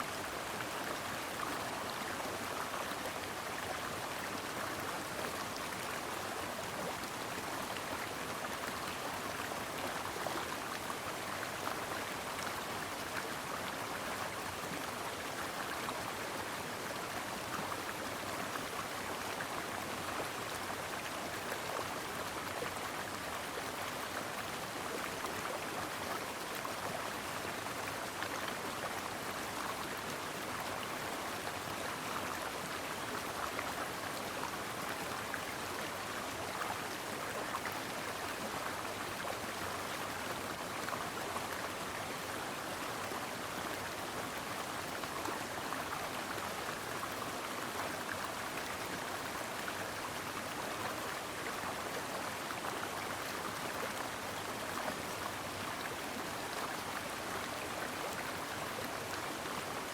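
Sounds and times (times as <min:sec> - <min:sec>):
stream water over rocks: 0:00.0 - 0:59.9.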